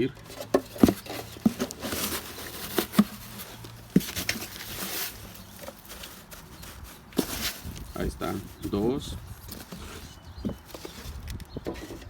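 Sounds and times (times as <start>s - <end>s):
sawdust scraping and rustling: 0.0s - 12.0s.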